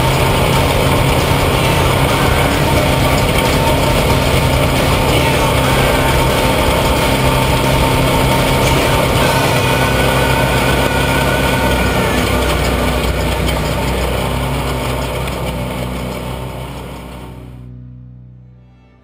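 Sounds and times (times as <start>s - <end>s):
truck engine running hard: 0.0s - 17.7s.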